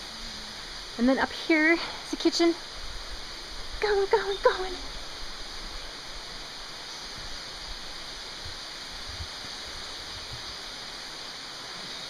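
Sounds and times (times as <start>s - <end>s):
waterfall hissing: 0.0s - 12.0s.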